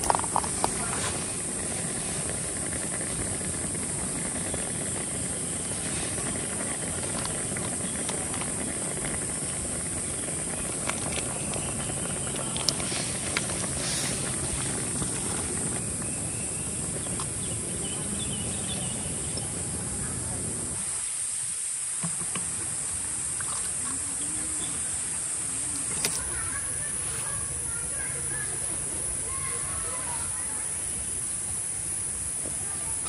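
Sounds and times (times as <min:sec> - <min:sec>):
high hiss: 0:00.0 - 0:33.0.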